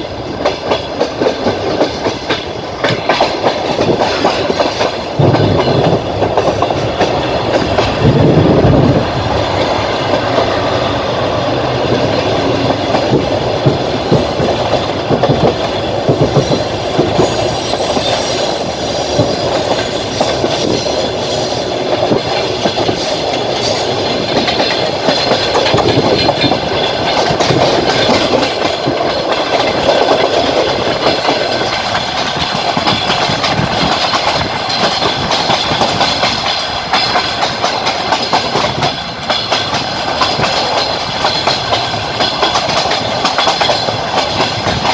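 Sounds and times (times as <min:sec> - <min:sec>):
train carriage rumble: 0:00.0 - 0:44.9
train wheels clacking over rail joints: 0:00.0 - 0:44.9.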